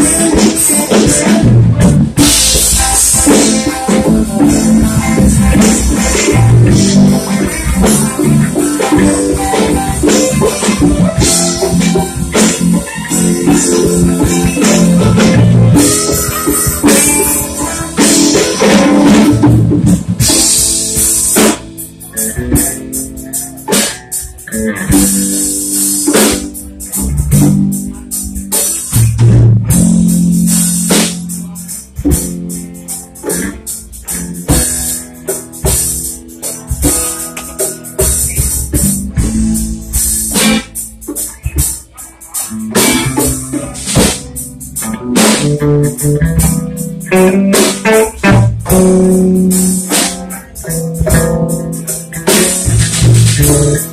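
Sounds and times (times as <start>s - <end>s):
bass guitar: 0.0s - 53.9s
drum kit: 0.0s - 53.9s
electric guitars: 0.0s - 53.9s.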